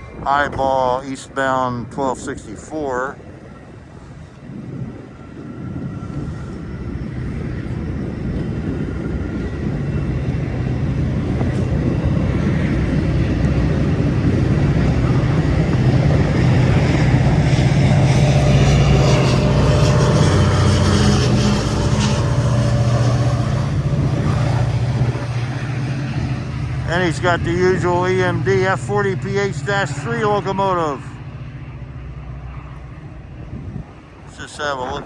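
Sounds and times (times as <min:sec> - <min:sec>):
diesel locomotive engine under load: 0:00.0 - 0:35.0.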